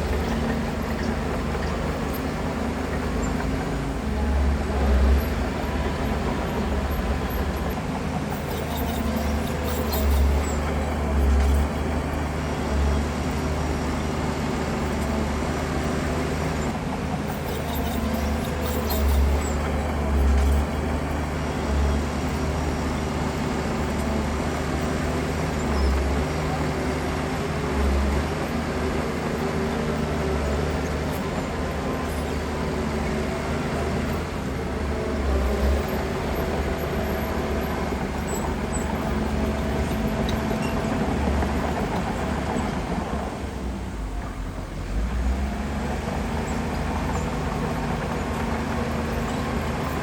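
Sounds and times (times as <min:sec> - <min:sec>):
diesel machinery engine rumbling: 0:00.0 - 0:50.0.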